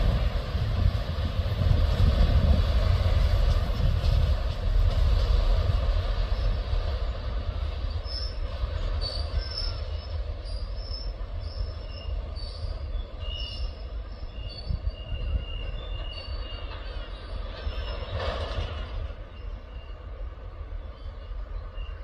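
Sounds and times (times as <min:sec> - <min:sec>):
freight train rumble: 0:00.0 - 0:22.0
train wheel squeals: 0:00.0 - 0:22.0.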